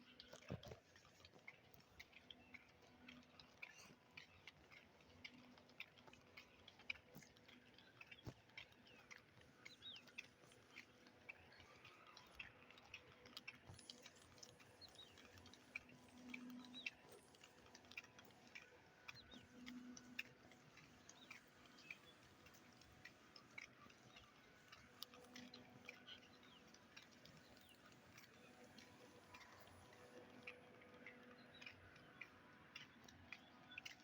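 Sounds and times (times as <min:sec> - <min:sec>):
rain drips and patter: 0:00.0 - 0:34.0.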